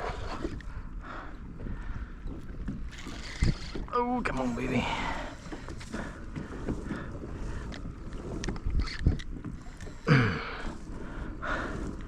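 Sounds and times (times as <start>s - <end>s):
water moving around kayak: 0.0s - 12.0s
wind on microphone: 0.0s - 12.0s.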